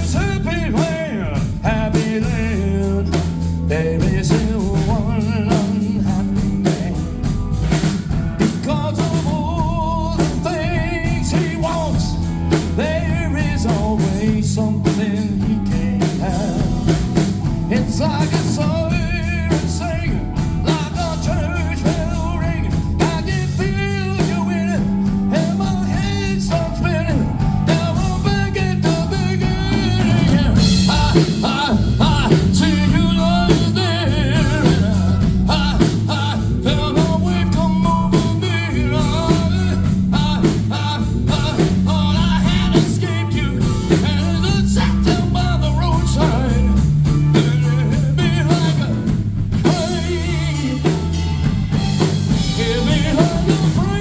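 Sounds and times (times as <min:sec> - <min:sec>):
person singing: 0:00.0 - 0:07.5, 0:08.4 - 0:54.0
drums: 0:00.0 - 0:54.0
walking bass line: 0:00.0 - 0:54.0.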